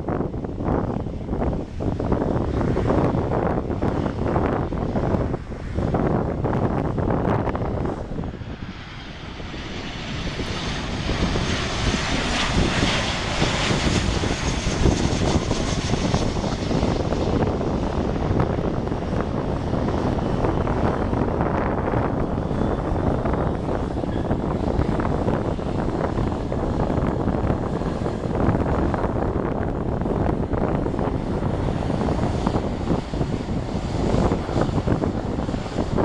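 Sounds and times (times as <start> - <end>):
airliner engines passing: 0.0 - 36.0.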